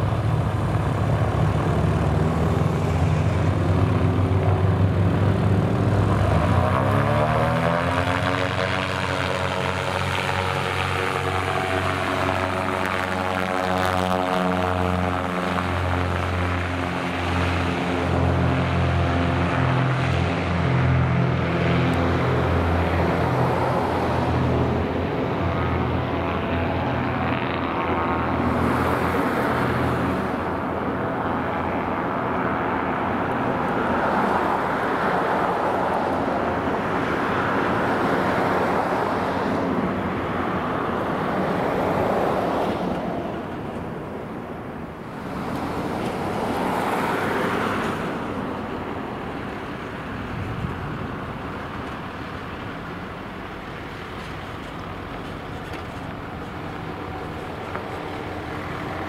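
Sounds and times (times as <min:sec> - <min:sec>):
twin piston aircraft engine drone: 0:00.0 - 0:59.0.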